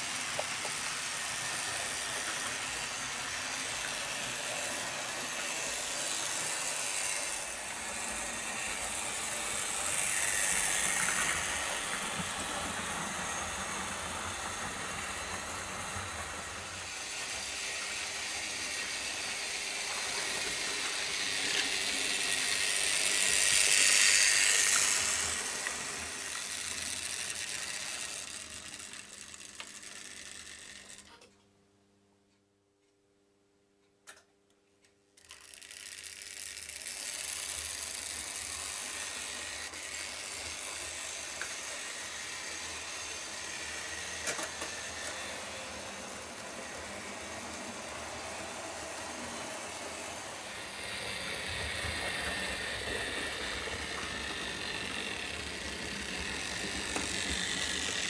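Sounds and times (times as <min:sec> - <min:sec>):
wheels rattling over rails: 0:00.0 - 0:31.0, 0:35.2 - 0:58.0
model locomotive motors whirring: 0:00.0 - 0:31.3, 0:35.2 - 0:58.0.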